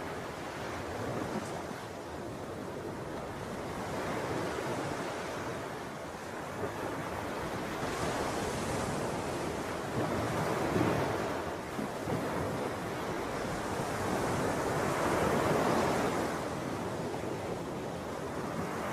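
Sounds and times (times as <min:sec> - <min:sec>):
ocean waves washing in: 0:00.0 - 0:18.9.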